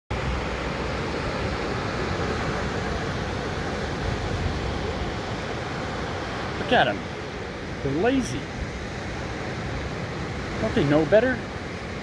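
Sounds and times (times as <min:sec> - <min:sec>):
ocean surf breaking: 0:00.1 - 0:12.0.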